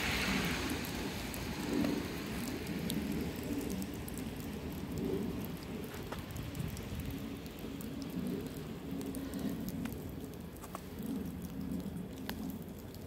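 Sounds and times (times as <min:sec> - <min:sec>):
wet snow pattering: 0:00.0 - 0:13.0
light ticks: 0:01.8 - 0:13.0.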